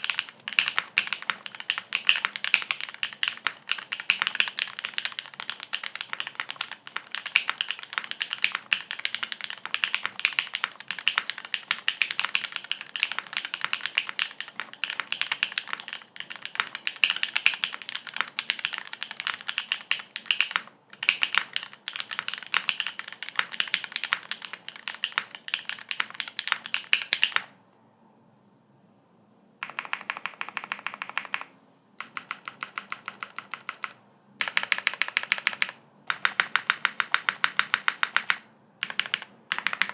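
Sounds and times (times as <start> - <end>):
mechanical keyboard typing: 0.0 - 27.5, 29.6 - 39.9.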